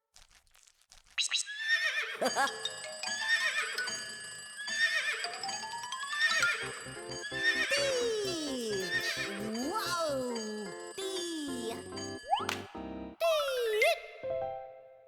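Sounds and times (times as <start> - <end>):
light children's music: 2.2 - 15.0.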